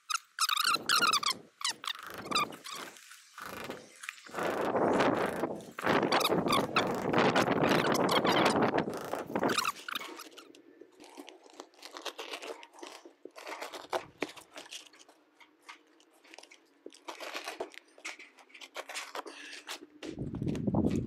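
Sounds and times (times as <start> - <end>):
knife scraping and tearing shingle: 1.9 - 10.5, 11.1 - 21.0.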